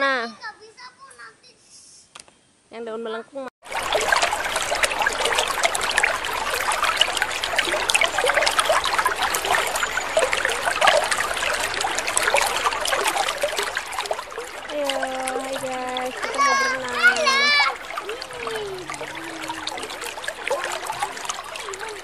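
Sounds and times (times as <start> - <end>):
fountain water splashing into pool: 3.6 - 22.0.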